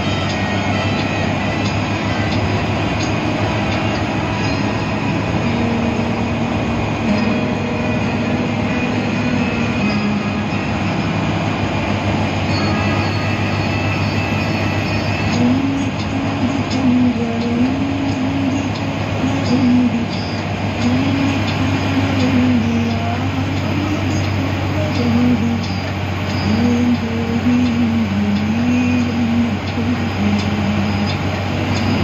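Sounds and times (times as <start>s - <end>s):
bus engine drone: 0.0s - 32.0s
road rumble: 0.0s - 32.0s.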